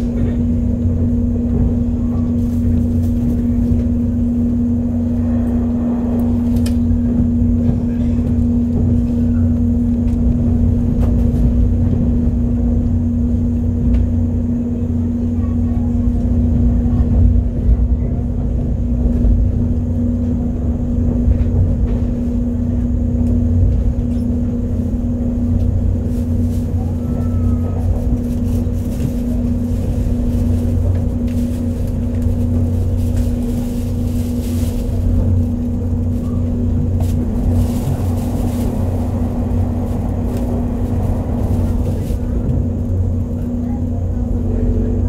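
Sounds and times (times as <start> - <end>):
steady hum: 0.0 - 45.0
train wheels rumbling: 0.0 - 45.0.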